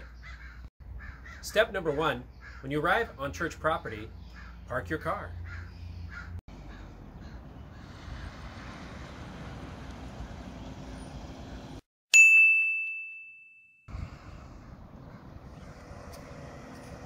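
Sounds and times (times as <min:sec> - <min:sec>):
outdoor background noise: 0:00.0 - 0:11.8, 0:13.9 - 0:17.0.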